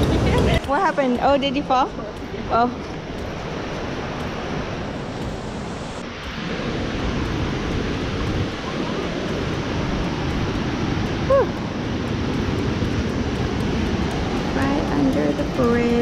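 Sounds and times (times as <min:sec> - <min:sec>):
river rapids rushing: 0:00.0 - 0:16.0
wind buffeting microphone: 0:00.0 - 0:16.0.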